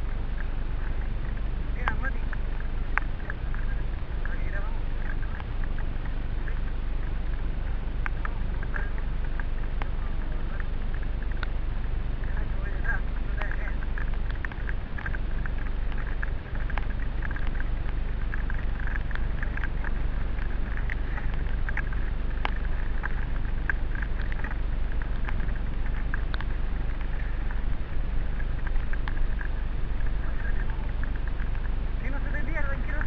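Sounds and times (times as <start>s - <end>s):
gravel and bike rattles: 0.0s - 33.0s
tyres rolling on gravel: 0.0s - 33.0s
wind rumble on microphone: 0.0s - 33.0s.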